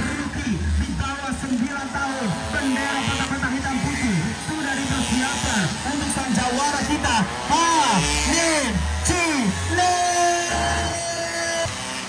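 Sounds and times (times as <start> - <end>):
small two-stroke engine buzzing: 0.0 - 12.0.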